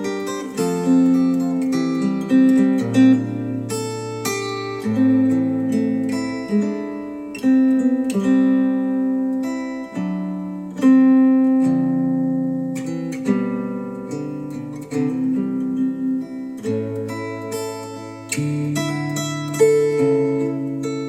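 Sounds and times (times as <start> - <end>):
acoustic guitar music: 0.0 - 21.0.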